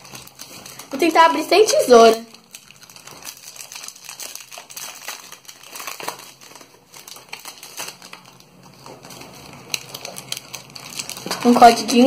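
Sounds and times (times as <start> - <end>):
foil pack crinkling: 0.0 - 12.0.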